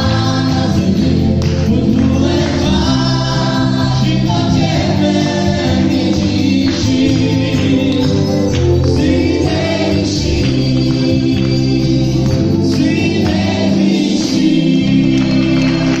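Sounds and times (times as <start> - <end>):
keyboard accompaniment: 0.0 - 16.0
man and women singing: 0.0 - 16.0.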